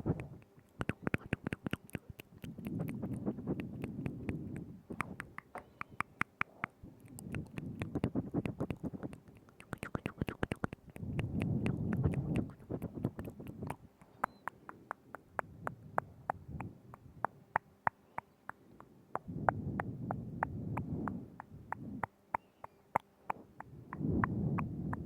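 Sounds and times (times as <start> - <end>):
low rumbling mouth noise: 0.0 - 25.0
wet mouth clicks and smacks: 0.0 - 25.0.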